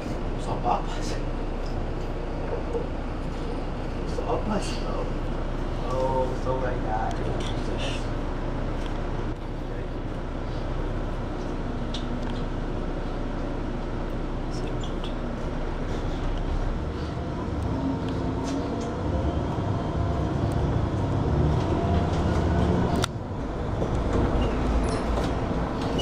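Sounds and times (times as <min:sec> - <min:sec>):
bus engine and road noise: 0:00.0 - 0:26.0.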